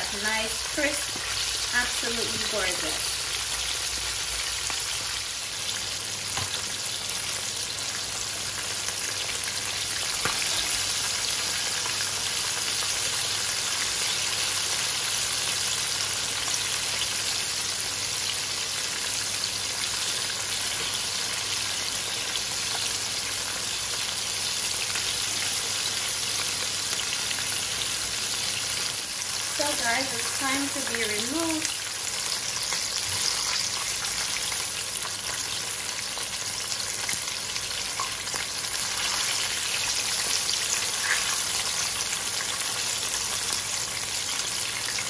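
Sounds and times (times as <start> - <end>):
chicken frying in oil: 0.0 - 45.0.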